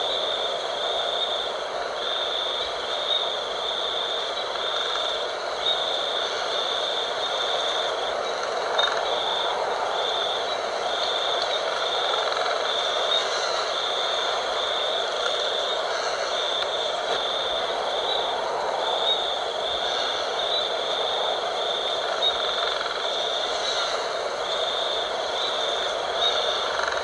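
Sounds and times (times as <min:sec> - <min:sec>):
night wind: 0:00.0 - 0:27.0.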